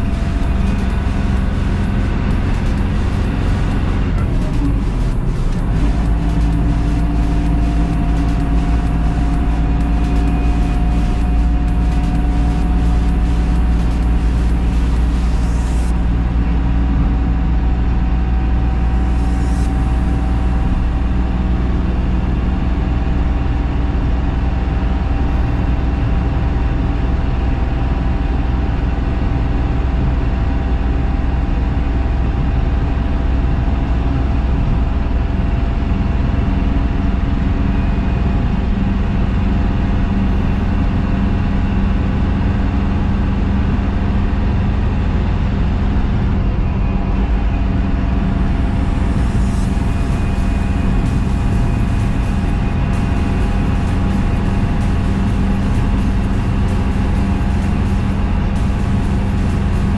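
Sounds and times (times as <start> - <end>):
diesel engine drone: 0.0 - 59.9
road and tyre noise: 0.0 - 59.9.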